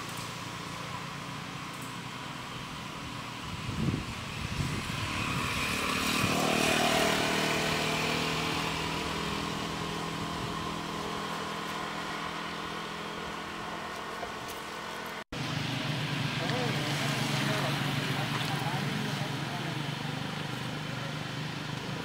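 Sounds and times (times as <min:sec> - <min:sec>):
vehicle engine passing: 0:03.3 - 0:22.0.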